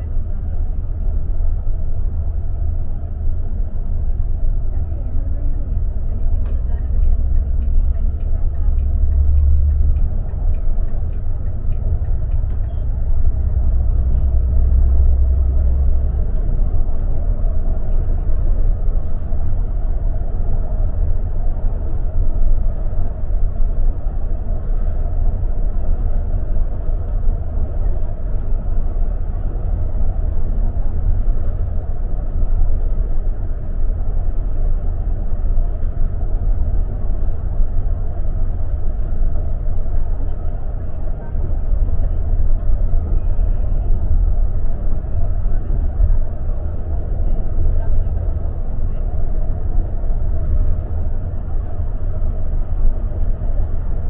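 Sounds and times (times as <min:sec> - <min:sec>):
bus engine and road noise: 0:00.0 - 0:54.0
deep engine hum: 0:00.0 - 0:54.0.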